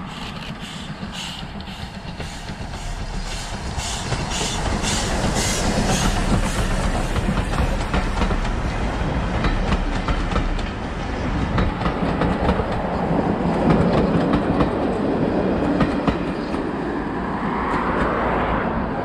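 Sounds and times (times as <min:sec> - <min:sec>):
train wheels clicking over rail joints: 0:00.0 - 0:18.2.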